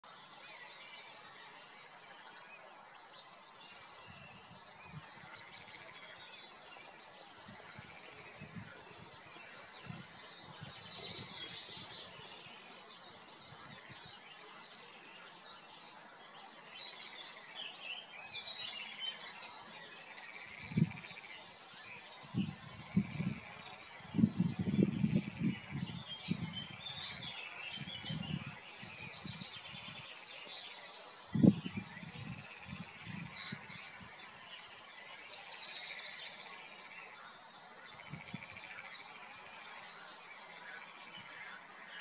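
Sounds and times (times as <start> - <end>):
songbirds singing and chirping: 0.0 - 42.0.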